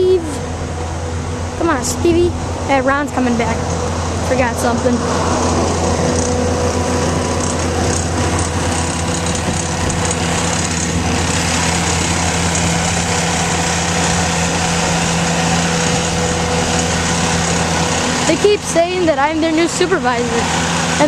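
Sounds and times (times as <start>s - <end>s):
diesel engine running steadily: 0.0s - 21.0s
steady tone: 0.0s - 21.0s.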